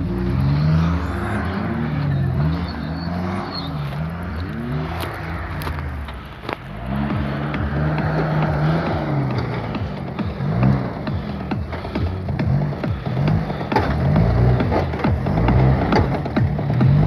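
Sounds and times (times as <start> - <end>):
suv engine revving: 0.0 - 17.0.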